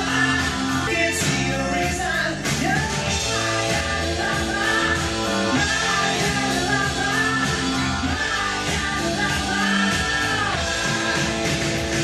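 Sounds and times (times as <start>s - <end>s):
song with singing voice: 0.0s - 12.0s.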